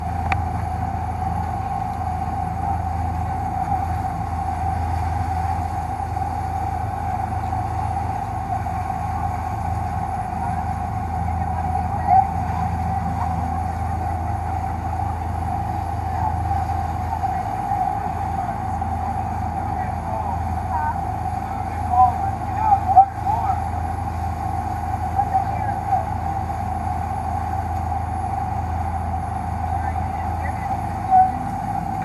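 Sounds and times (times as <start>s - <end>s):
boat engine humming: 0.0s - 32.0s
engine whine: 0.0s - 32.0s.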